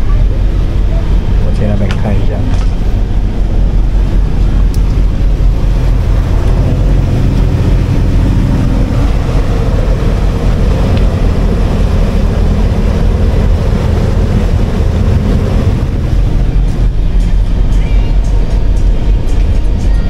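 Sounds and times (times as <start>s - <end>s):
water rushing past hull: 0.0s - 19.3s
boat engine droning: 0.0s - 20.0s
wind rushing: 0.4s - 19.8s.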